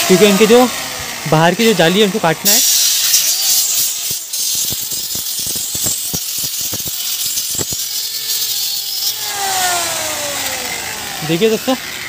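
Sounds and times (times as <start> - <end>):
cutting machine hissing: 0.0 - 12.0.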